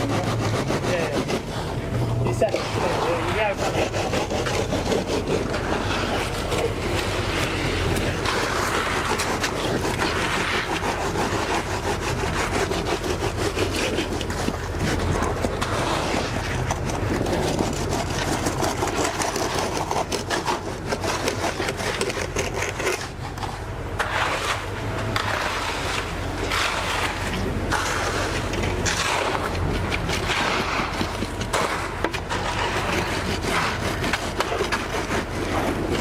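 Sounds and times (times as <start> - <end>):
pump engine running: 0.0 - 36.0
tools scraping wet concrete: 0.0 - 36.0.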